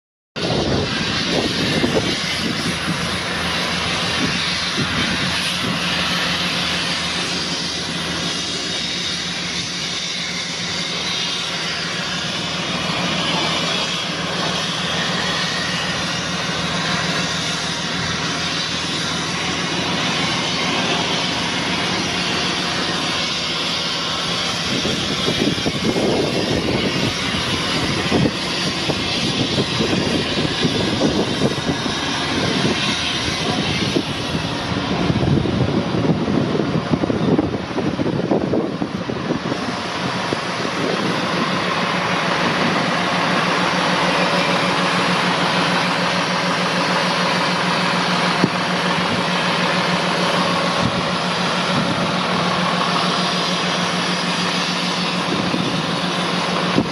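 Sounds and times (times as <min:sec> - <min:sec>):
diesel engine idling: 0:00.4 - 0:56.9.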